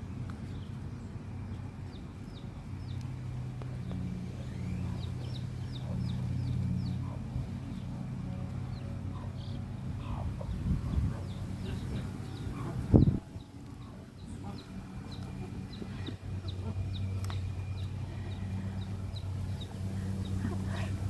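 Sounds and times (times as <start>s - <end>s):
low mechanical hum: 0.0s - 21.0s
chicks peeping: 1.5s - 21.0s.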